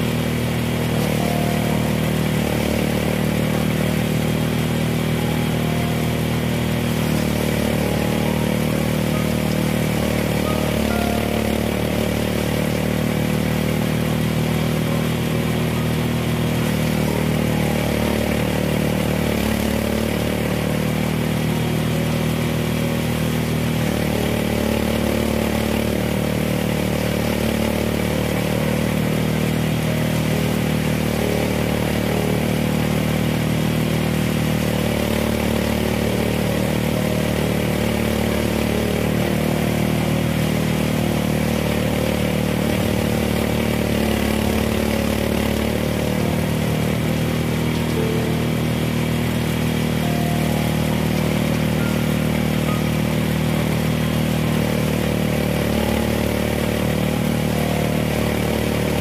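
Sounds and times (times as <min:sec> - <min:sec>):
small engine running steadily: 0:00.0 - 0:59.0.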